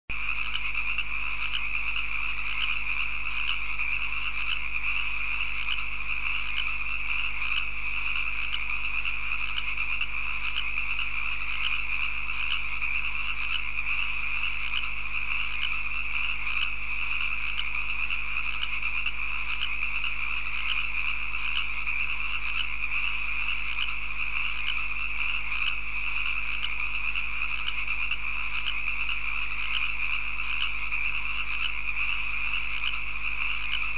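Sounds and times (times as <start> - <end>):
frogs croaking: 0.1 - 33.9.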